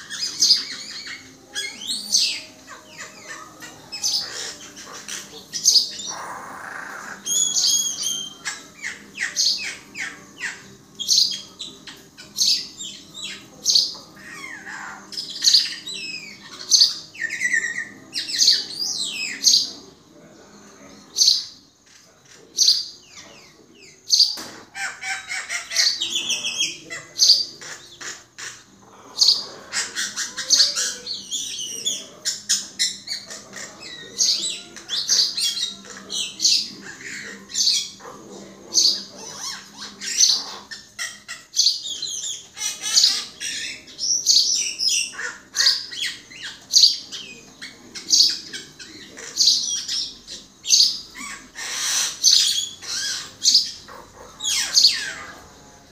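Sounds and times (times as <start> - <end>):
myna calling: 0.0 - 19.9, 21.1 - 55.9.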